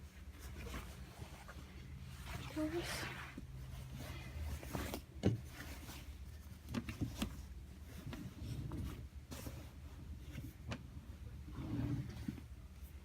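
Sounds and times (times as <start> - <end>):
clothes rustling and rubbing: 0.0 - 13.0.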